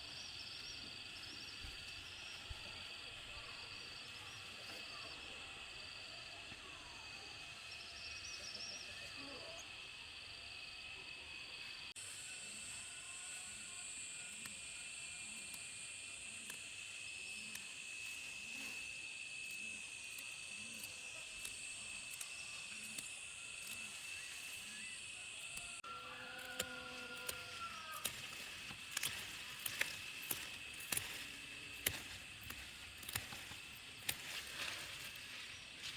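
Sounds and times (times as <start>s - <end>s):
high-pitched insect trill: 6.8s - 35.9s.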